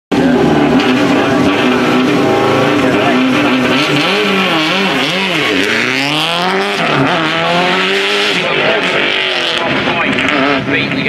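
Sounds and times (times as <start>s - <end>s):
rally car engine revving: 0.1s - 11.0s.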